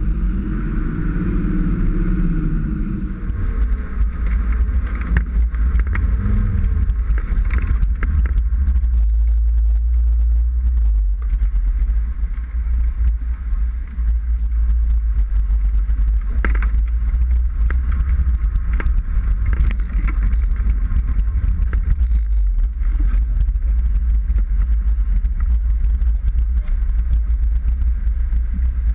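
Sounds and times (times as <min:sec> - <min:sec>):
engine rumbling: 0:00.0 - 0:28.9.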